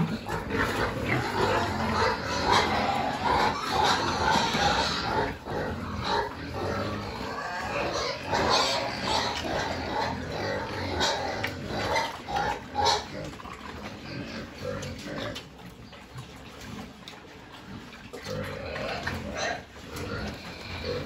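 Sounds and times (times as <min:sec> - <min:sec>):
pig grunting: 0:00.0 - 0:15.8, 0:16.6 - 0:21.0
pigs chomping and snuffling: 0:00.0 - 0:21.0.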